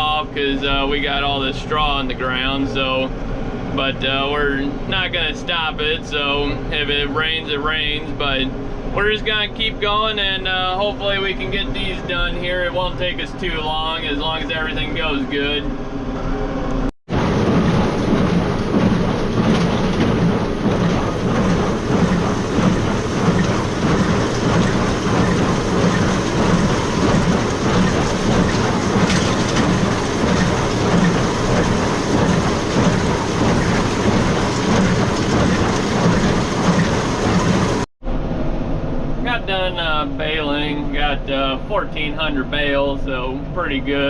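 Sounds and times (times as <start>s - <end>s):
tractor and baler rumbling: 0.0s - 16.3s, 17.1s - 37.9s.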